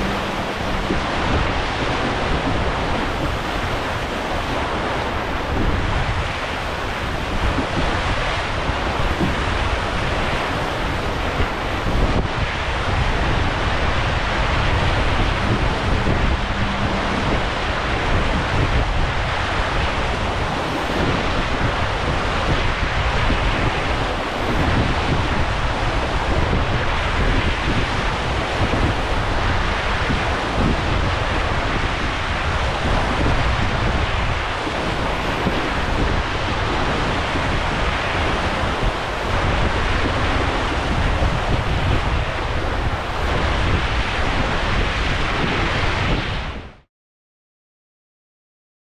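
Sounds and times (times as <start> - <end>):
water rushing along hulls: 0.0 - 46.6
wind buffeting microphone: 0.0 - 46.8.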